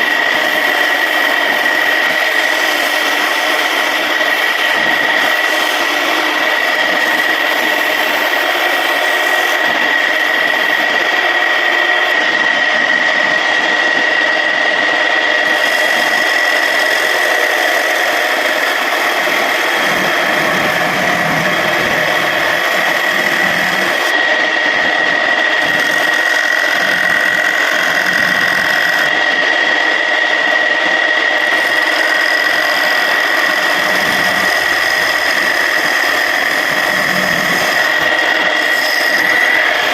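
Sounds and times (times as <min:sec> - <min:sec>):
tool scraping spinning wood: 0:00.0 - 0:39.9
wood lathe whining: 0:00.0 - 0:39.9.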